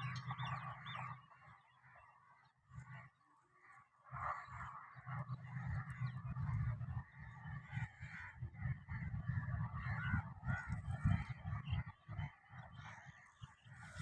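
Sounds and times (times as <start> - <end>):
many birds chattering: 0.0 - 14.0.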